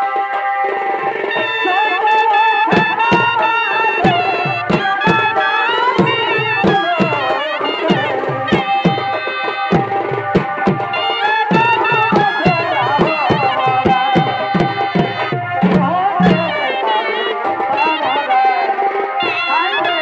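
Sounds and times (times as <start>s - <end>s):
dhol drum strokes: 0.0s - 20.0s
shehnai melody: 0.0s - 20.0s.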